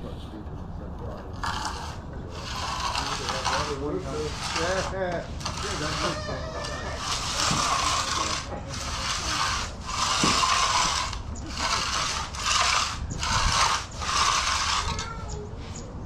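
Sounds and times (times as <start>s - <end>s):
broom scratching on concrete: 1.4s - 15.9s.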